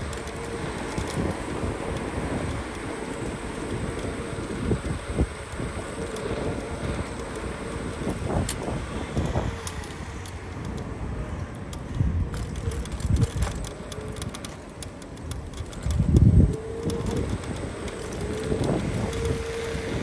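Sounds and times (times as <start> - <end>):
knocks and rattles over bumps: 0.0 - 20.0
steady whine: 0.0 - 20.0
wheels rumbling on road: 0.0 - 20.0
wind buffeting microphone: 0.0 - 20.0.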